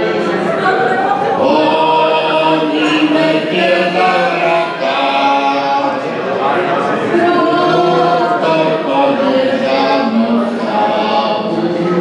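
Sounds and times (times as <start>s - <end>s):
man chanting: 1.4s - 12.0s.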